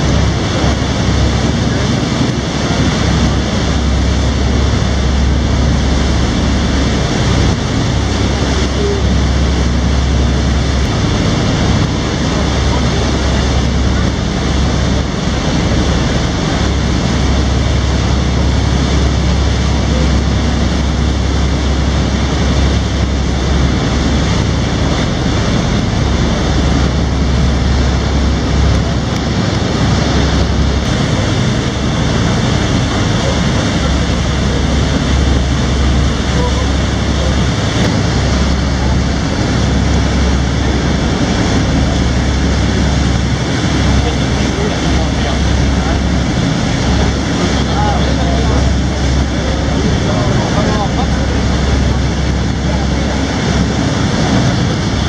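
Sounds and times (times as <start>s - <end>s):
boat engine drone: 0.0s - 55.0s
water rushing along hull: 0.0s - 55.0s
wind noise on microphone: 0.0s - 55.0s.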